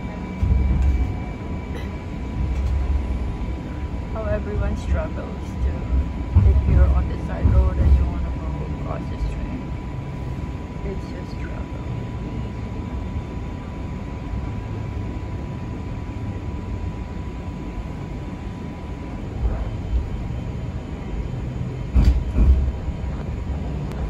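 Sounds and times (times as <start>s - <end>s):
streetcar rumbling on rails: 0.0s - 24.0s.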